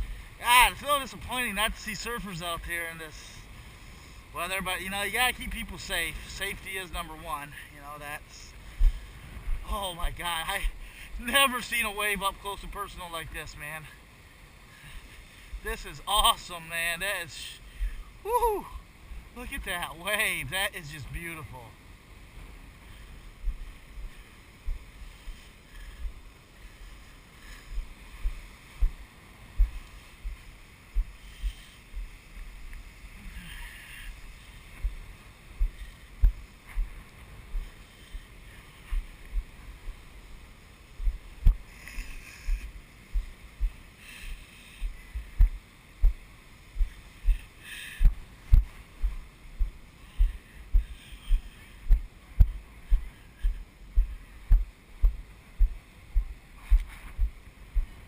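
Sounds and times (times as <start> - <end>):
wind hiss: 0.0 - 58.0.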